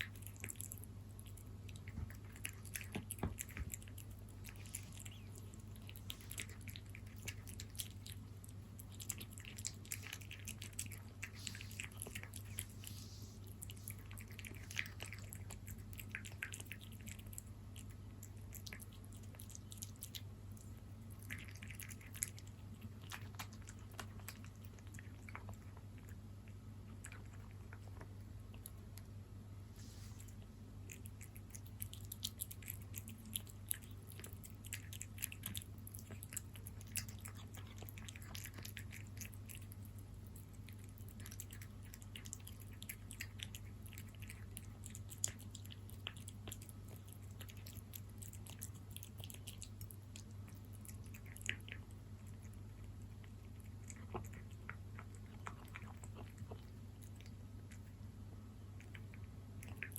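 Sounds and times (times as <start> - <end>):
cat chewing and licking food: 0.0 - 59.9.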